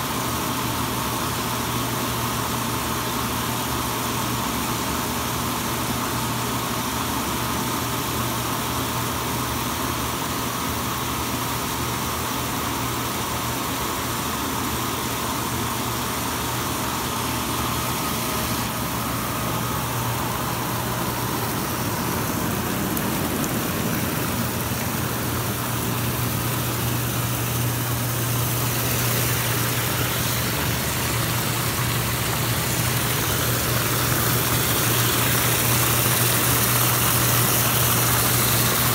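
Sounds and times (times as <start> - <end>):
jet pump hum: 0.0 - 38.9
churning aerated water: 0.1 - 38.9.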